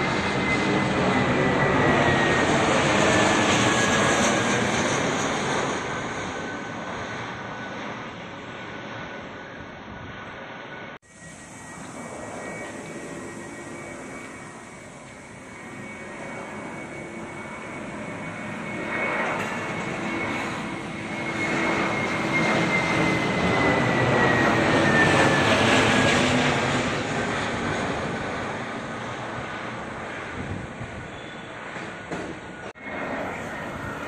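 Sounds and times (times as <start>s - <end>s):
jet airliner passing overhead: 0.0s - 34.0s
jet engine whine falling in pitch: 0.0s - 34.0s.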